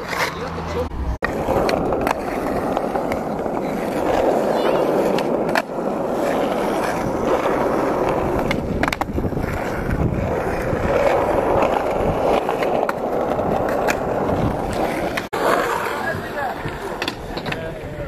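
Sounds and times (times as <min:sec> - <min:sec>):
skateboard wheels rolling on asphalt: 0:00.0 - 0:18.0
skateboard clacks: 0:01.2 - 0:18.0.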